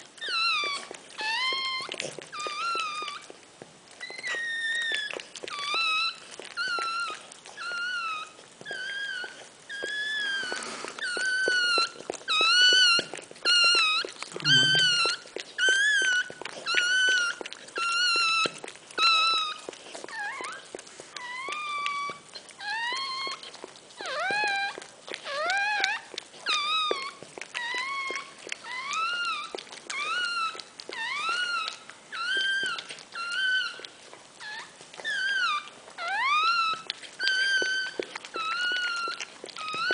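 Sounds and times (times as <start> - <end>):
puppy squealing: 0.0 - 3.4, 4.0 - 39.9.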